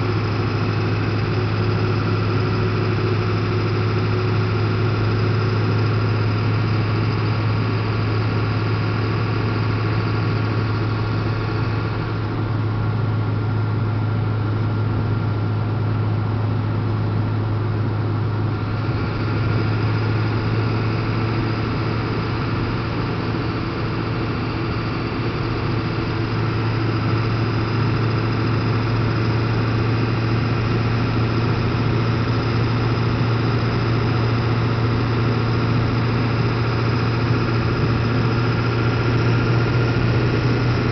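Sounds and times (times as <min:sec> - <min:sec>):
diesel truck engine droning: 0:00.0 - 0:40.9.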